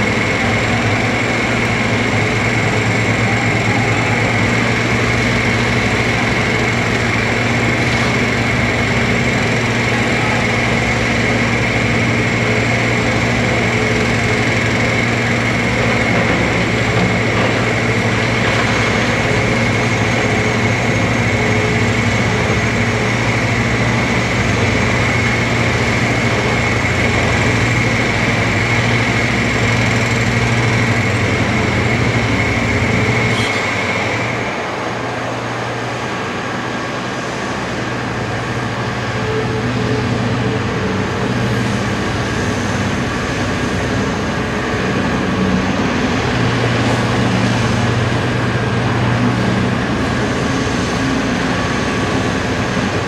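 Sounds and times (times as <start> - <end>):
dump truck diesel engine: 0.0 - 53.0
excavator diesel engine: 0.0 - 53.0.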